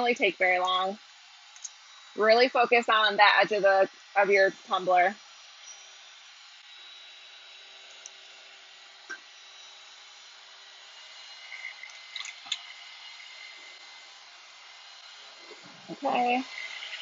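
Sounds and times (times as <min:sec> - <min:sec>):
heat gun hissing: 0:00.0 - 0:17.0.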